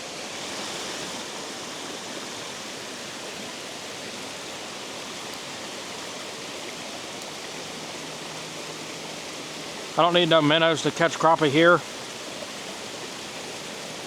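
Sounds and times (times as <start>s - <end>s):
water pouring over a spillway: 0.0s - 14.0s.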